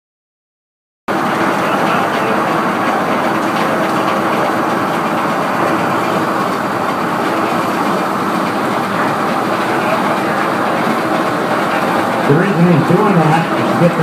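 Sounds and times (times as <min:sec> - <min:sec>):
heavy sawmill machinery rattling: 0:01.1 - 0:14.0.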